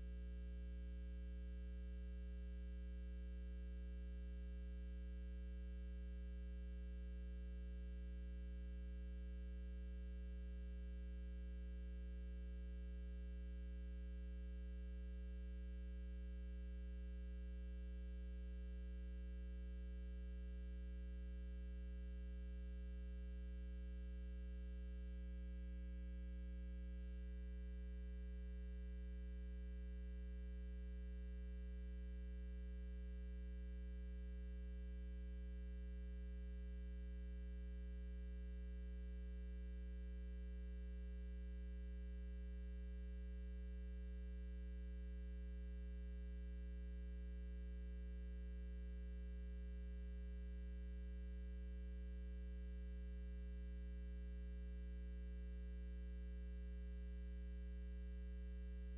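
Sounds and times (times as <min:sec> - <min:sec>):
electrical mains hum: 0:00.0 - 0:58.9.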